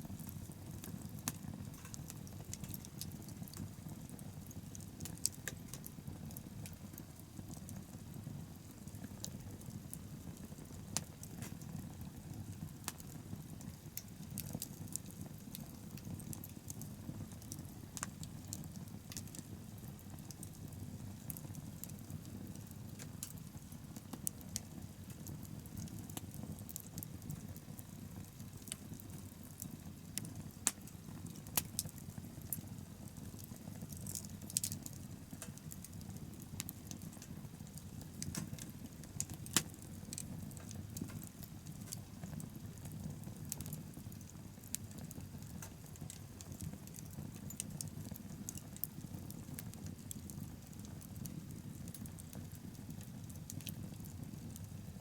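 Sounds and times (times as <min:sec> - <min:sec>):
burning wood crackling and popping: 0:00.0 - 0:55.0.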